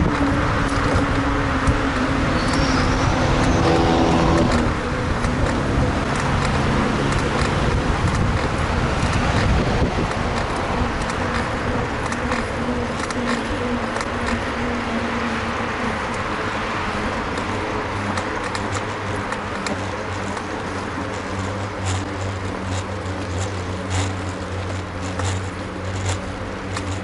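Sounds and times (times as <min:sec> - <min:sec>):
steady road noise: 0:00.0 - 0:27.0
vehicle engine hum: 0:00.0 - 0:27.0.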